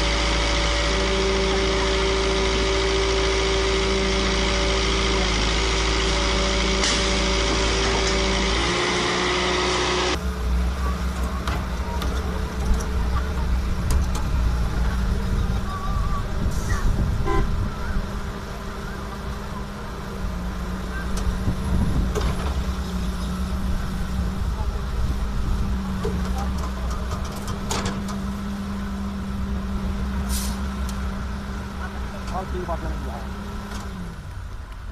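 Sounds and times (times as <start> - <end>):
heavy machinery engine droning: 0.0 - 34.9.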